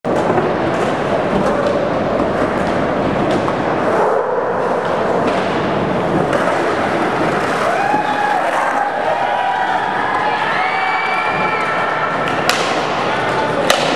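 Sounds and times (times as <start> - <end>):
skateboard clacks: 0.1 - 9.1, 11.5 - 13.9
skateboard wheels rumbling on concrete: 0.1 - 13.9.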